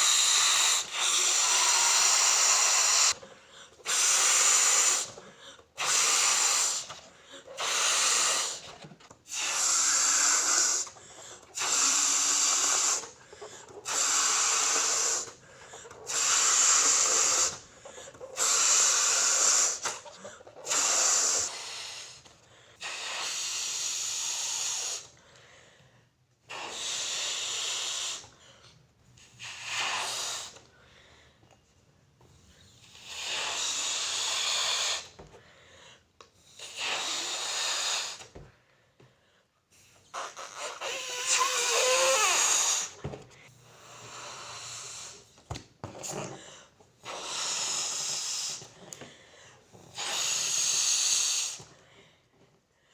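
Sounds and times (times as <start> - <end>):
breathy puffs blowing up balloon: 0.0 - 25.2, 26.5 - 28.5, 29.2 - 30.7, 32.7 - 35.4, 36.4 - 38.5, 39.7 - 51.8.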